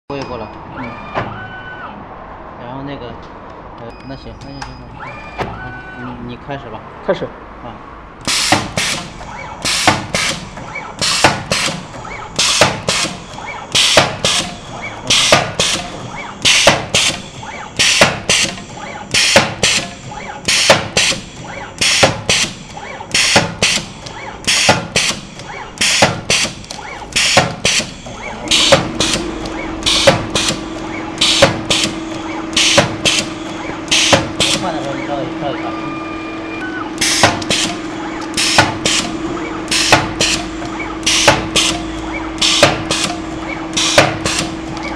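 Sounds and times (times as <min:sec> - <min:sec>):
steady low hum: 0:07.7 - 0:44.9
stamping machine strokes: 0:08.2 - 0:44.9.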